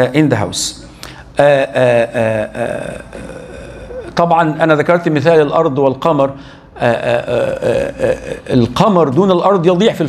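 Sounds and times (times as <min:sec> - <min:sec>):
man's voice: 0:00.0 - 0:10.0.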